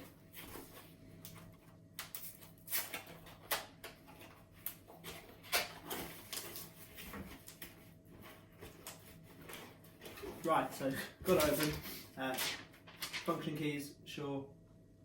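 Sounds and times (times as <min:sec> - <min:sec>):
cardboard packaging rustling: 0:00.0 - 0:13.5.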